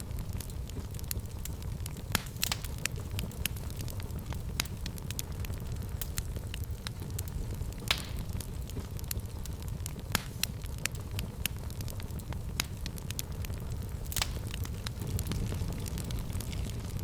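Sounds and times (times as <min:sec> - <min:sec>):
fire crackling: 0:00.0 - 0:17.0
fire popping: 0:00.0 - 0:17.0.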